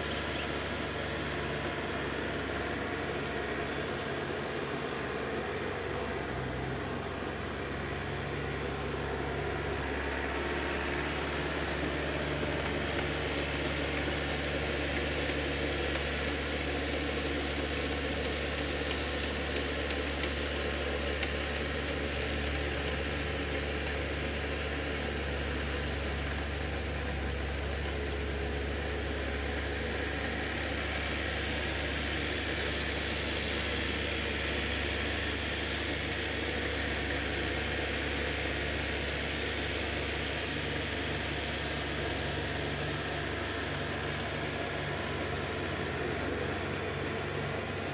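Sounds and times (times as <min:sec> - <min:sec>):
tractor engine droning: 0:00.0 - 0:47.9.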